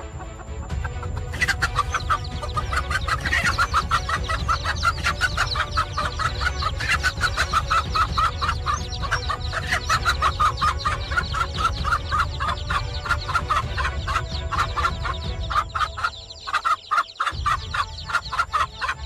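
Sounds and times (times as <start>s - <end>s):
hen alarm clucks: 0.0s - 19.0s.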